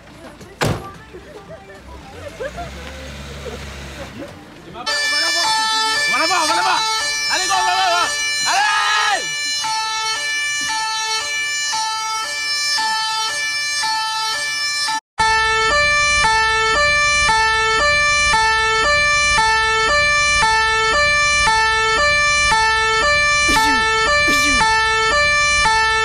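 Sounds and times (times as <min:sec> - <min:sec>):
two-tone emergency siren: 0:04.9 - 0:26.0.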